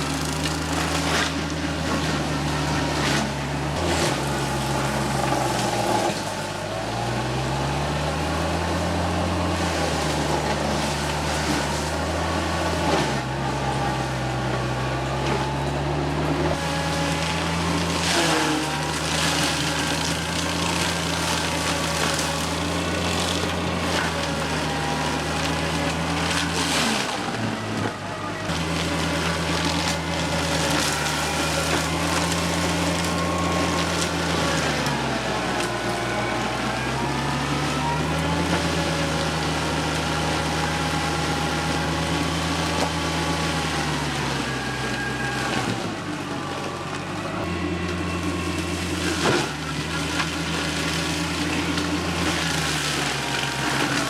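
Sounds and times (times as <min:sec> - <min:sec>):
forestry mulcher whine: 0:00.0 - 0:54.0
tractor diesel engine running: 0:00.0 - 0:54.0.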